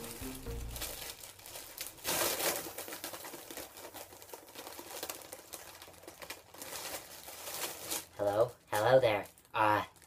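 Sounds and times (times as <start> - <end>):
foil balloon crinkling: 0.0 - 10.0.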